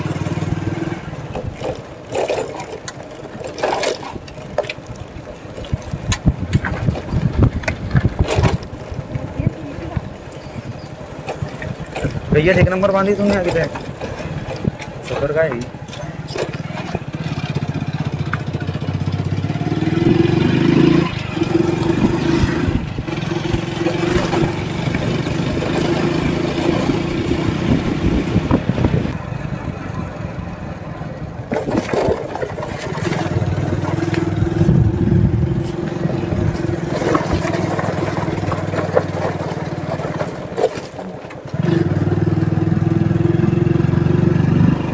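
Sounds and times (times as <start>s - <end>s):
motorcycle engine running: 0.0s - 44.9s
road and wind noise: 0.0s - 44.9s.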